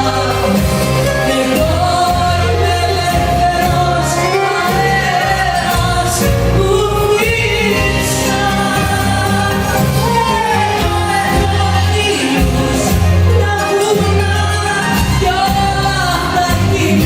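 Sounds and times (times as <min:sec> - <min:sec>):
band playing with bass line: 0:00.0 - 0:17.0
person singing: 0:00.0 - 0:17.0.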